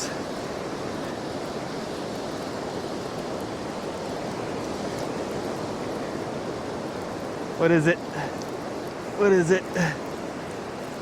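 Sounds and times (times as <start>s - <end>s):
ocean surf washing: 0.0s - 11.0s.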